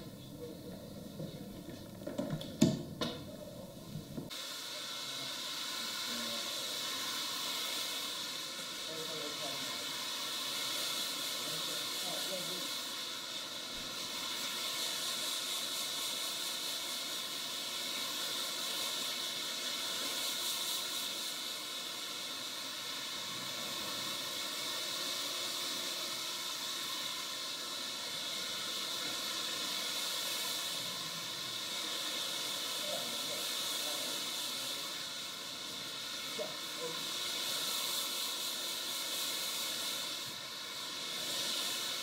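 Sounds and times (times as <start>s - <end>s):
hair dryer blowing: 1.1s - 42.0s.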